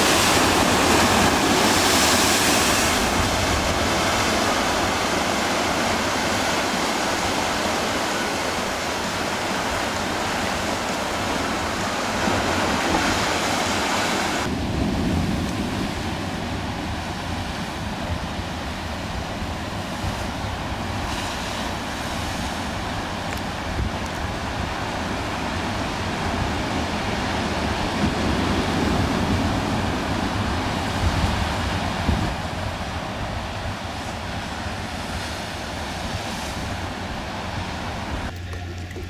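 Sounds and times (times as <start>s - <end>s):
ocean surf breaking on rocks: 0.0s - 38.4s
wind buffeting microphone: 0.0s - 39.0s.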